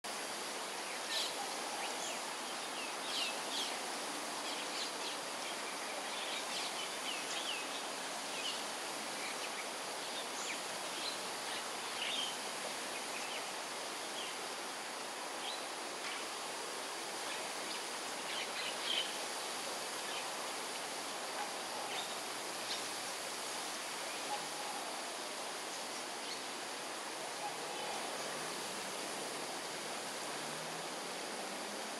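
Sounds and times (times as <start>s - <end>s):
steady background hiss: 0.0s - 31.9s.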